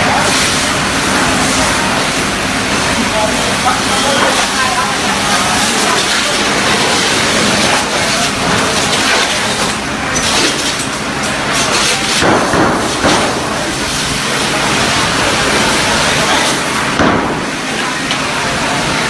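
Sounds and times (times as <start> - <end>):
fire hose water spray: 0.0 - 19.0.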